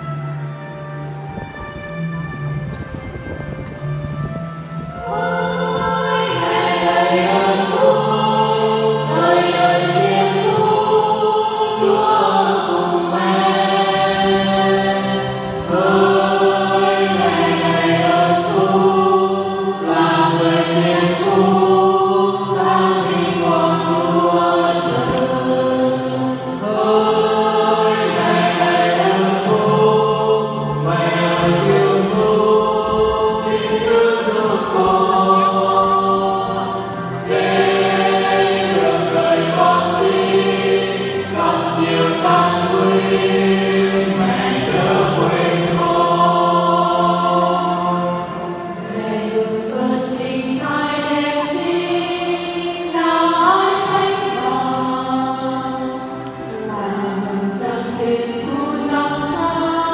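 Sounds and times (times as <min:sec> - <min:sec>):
choir singing a hymn: 0:00.0 - 0:59.9
sustained low accompanying notes: 0:00.0 - 0:59.9.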